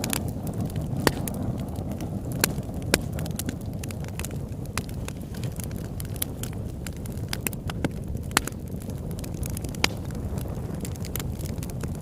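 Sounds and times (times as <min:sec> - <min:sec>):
low rumble of flames: 0:00.0 - 0:12.0
wood crackling and popping: 0:00.0 - 0:12.0.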